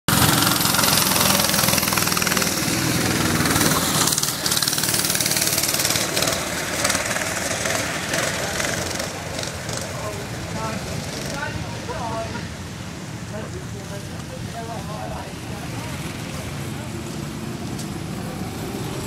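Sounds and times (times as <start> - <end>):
go-kart engine passing: 0.1 - 19.0.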